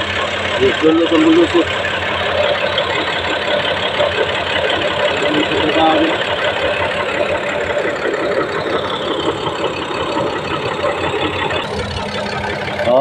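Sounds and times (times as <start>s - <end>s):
bulldozer diesel engine rumbling: 0.0s - 13.0s.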